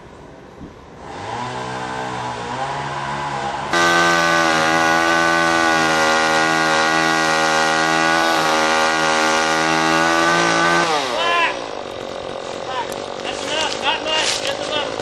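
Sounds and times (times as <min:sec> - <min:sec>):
chainsaw at full throttle: 0:01.0 - 0:15.0.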